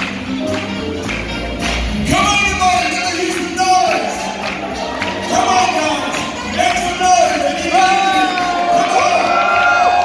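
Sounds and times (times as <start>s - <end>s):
swing music: 0.0s - 10.0s.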